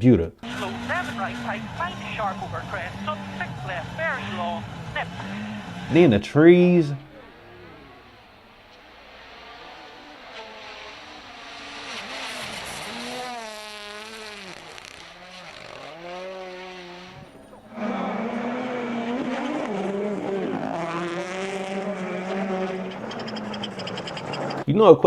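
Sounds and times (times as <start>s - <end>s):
car holding high engine note: 0.4s - 24.6s
rally car engines revving: 0.4s - 24.7s.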